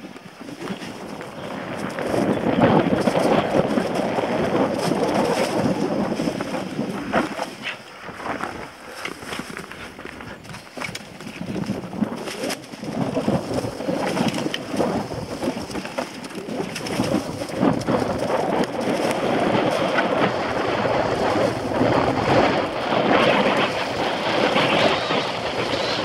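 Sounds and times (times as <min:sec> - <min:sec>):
bike knocking and rattling: 0:00.0 - 0:26.0
tyres crackling over dry leaves: 0:00.0 - 0:26.0
wind on microphone: 0:00.0 - 0:26.0.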